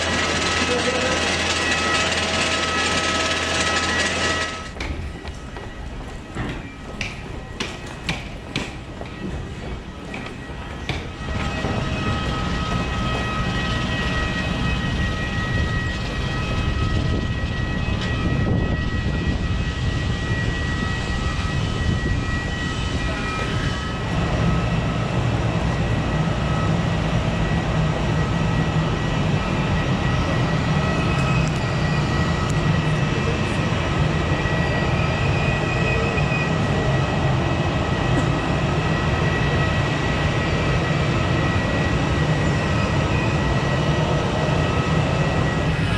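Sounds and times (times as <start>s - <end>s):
airliner mechanical drone: 0.0s - 45.9s
constant high whine: 0.0s - 45.9s.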